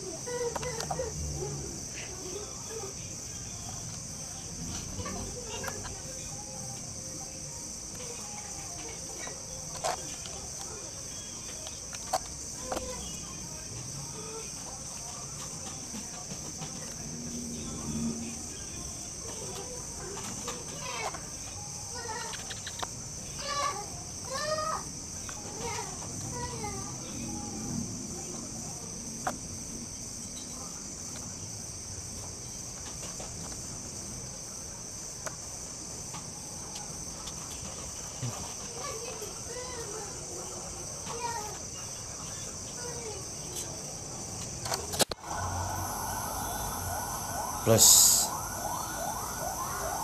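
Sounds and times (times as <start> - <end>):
insect chirring: 0.0 - 50.0.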